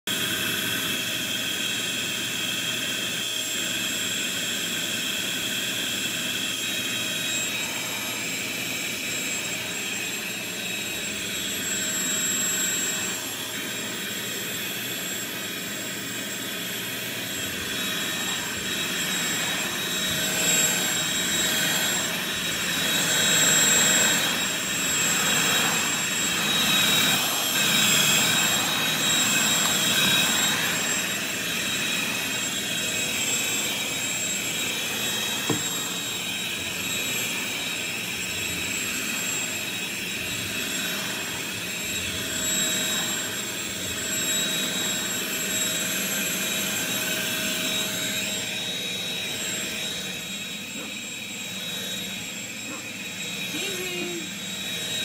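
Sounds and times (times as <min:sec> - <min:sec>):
vacuum cleaner motor whine: 0:00.1 - 0:55.0.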